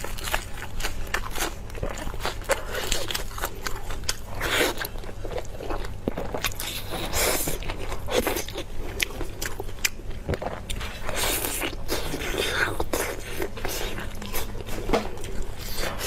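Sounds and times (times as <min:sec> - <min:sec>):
person biting and chewing food: 0:00.0 - 0:16.0.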